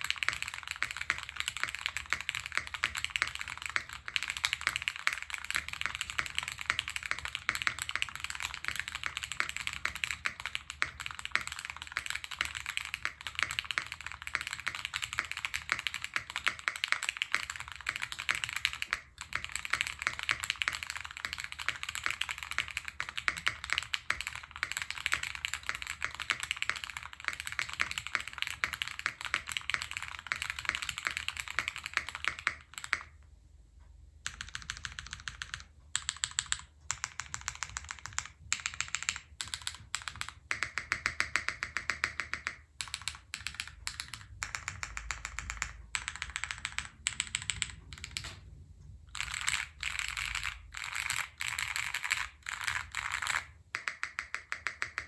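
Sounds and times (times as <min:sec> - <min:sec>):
mechanical keyboard typing: 0:00.0 - 0:33.2, 0:34.2 - 0:48.4, 0:49.1 - 0:55.0.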